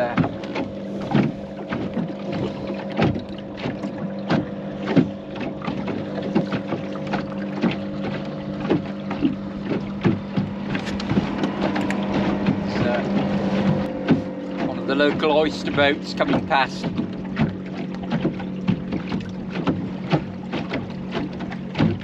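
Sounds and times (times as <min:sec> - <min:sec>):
boat engine drone: 0:00.0 - 0:22.0
water slapping against boat hull: 0:00.0 - 0:22.0.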